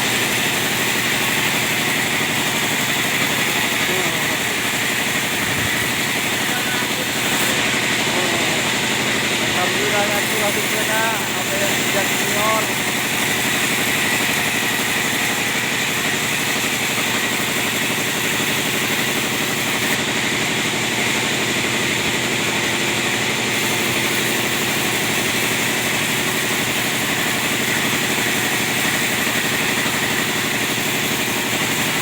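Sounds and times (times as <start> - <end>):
chainsaw cutting timber: 0.0 - 32.0.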